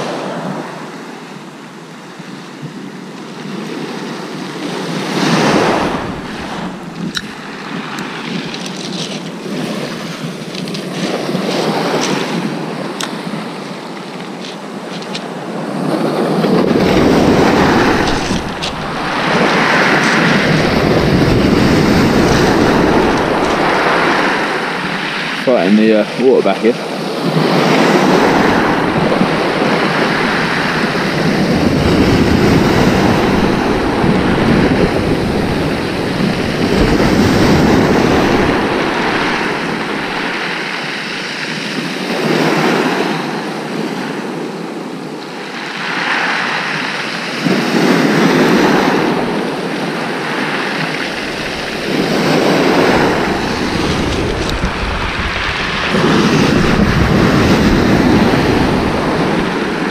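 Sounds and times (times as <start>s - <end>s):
wind buffeting microphone: 2.7s - 43.3s, 47.4s - 59.9s
waves washing over shingle: 3.4s - 59.9s.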